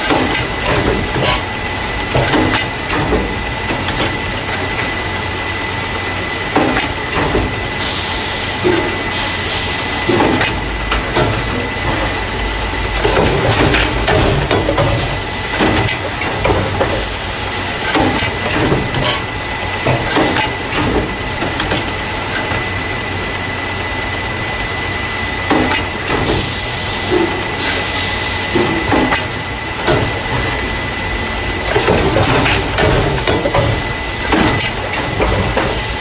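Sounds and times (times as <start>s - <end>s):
machine knocks and clatters: 0.0s - 5.4s, 6.4s - 7.9s, 8.6s - 22.8s, 25.4s - 36.0s
constant high machine whine: 0.0s - 36.0s.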